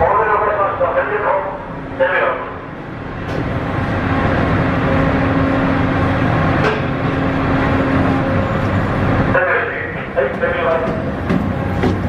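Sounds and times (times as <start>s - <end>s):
ferry engines droning: 0.0s - 12.0s.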